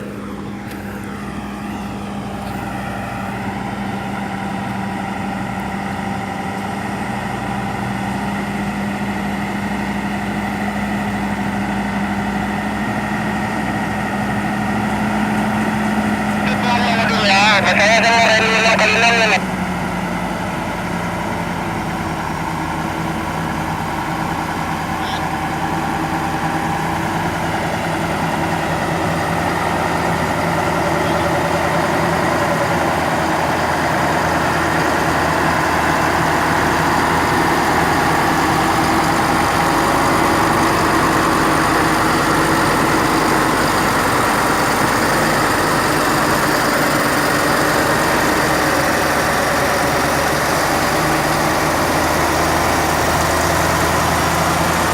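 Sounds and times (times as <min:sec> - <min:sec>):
heavy truck diesel engine running: 0:00.0 - 0:54.9.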